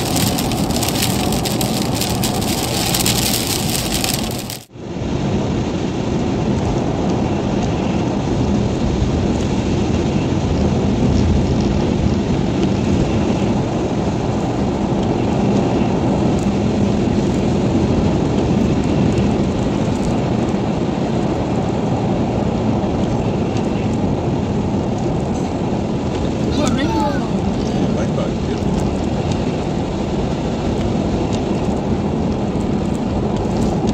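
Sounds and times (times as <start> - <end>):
rain on windscreen: 0.0 - 33.9
road and tyre noise: 0.0 - 33.9.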